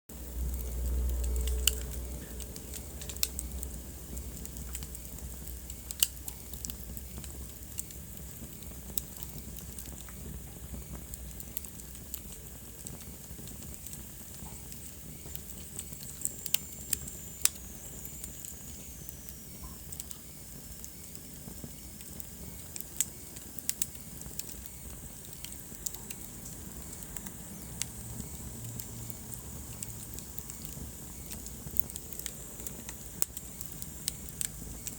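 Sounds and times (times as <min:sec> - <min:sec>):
fire hiss and rumble: 0:00.1 - 0:34.9
wood fire pops and snaps: 0:00.2 - 0:34.9.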